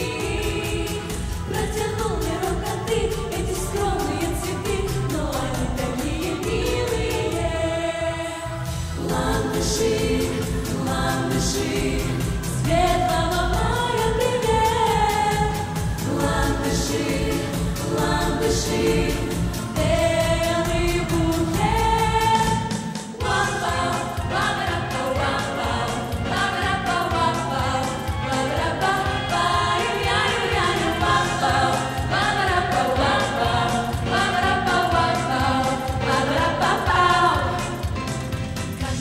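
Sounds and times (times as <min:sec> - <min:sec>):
women singing in harmony: 0:00.0 - 0:38.1, 0:38.8 - 0:39.0
backing pop music with beat: 0:00.0 - 0:39.0.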